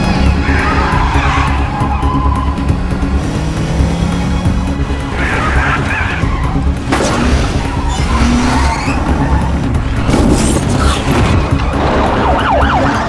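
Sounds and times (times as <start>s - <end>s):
car engine running hard: 0.0s - 13.0s
tense music score: 0.0s - 13.0s
tyres skidding: 0.0s - 13.0s.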